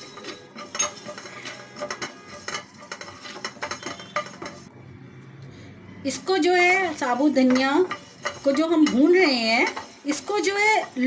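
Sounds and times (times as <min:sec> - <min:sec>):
seeds rattling in frying pan: 0:00.0 - 0:04.7, 0:06.1 - 0:11.0.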